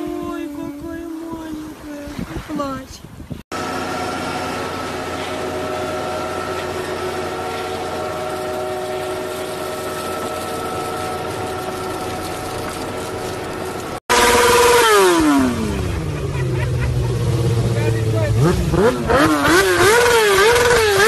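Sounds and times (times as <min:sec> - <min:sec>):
harvester mechanical drone: 0:03.5 - 0:21.0.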